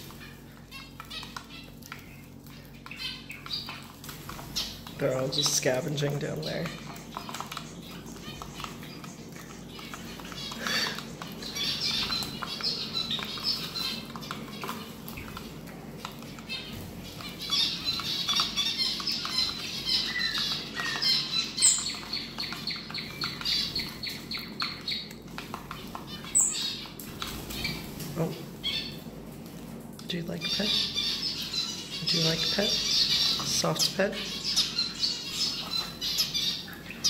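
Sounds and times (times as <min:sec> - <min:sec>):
small birds chattering: 0:00.0 - 0:37.0.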